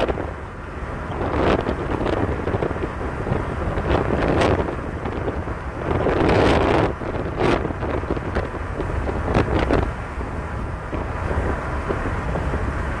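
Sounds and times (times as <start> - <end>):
steady low rumble: 0.0 - 13.0
wind buffeting microphone: 0.0 - 13.0.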